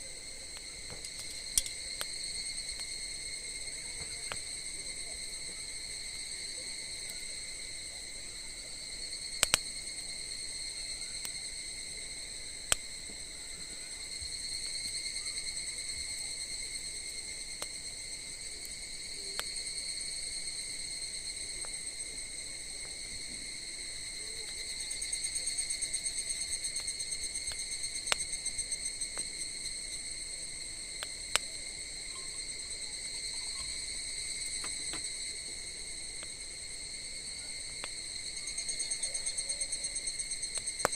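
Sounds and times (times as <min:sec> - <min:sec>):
insects chirring: 0:00.0 - 0:40.9
campfire wood popping: 0:00.2 - 0:32.1, 0:33.7 - 0:38.6, 0:40.3 - 0:40.9.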